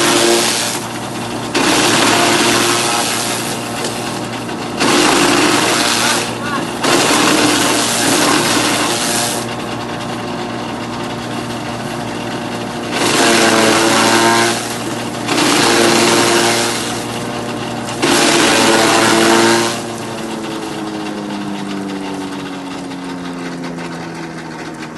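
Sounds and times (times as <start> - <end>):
motorised grass chopper running: 0.0 - 24.9.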